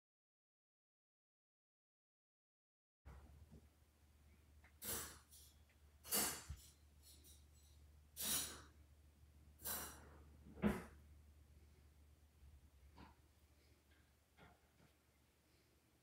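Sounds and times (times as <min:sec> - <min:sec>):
faint low hum: 0:03.1 - 0:16.0.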